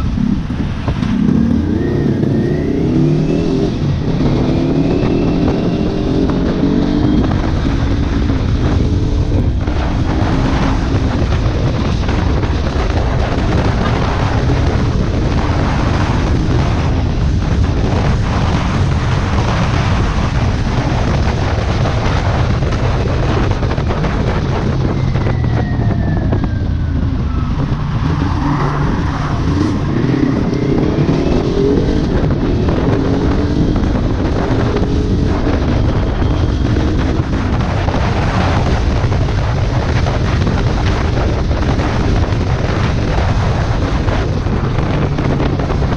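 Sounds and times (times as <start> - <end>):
motorcycle engine revving: 0.0 - 45.9
wind noise on microphone: 0.0 - 45.9.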